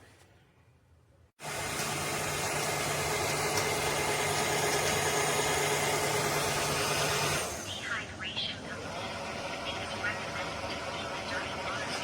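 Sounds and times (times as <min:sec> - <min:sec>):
vacuum mop motor and fan hum: 0:01.4 - 0:12.0.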